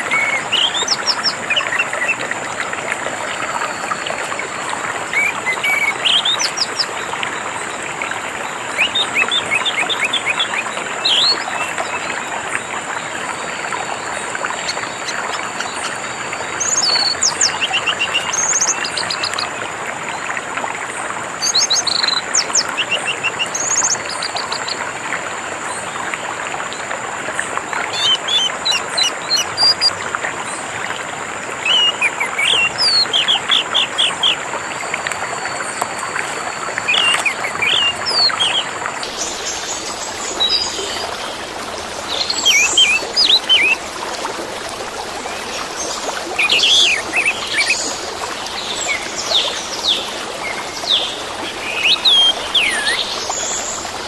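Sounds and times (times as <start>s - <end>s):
trickle of running water: 0.0s - 54.0s.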